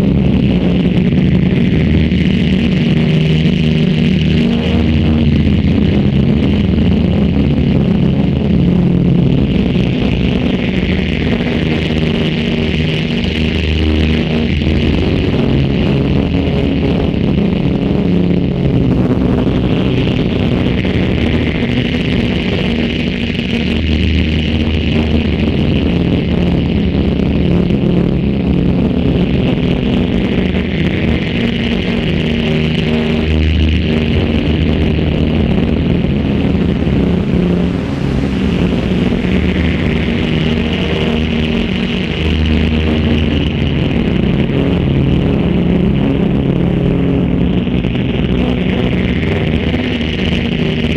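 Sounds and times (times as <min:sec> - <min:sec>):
electronic drone: 0:00.0 - 0:50.9.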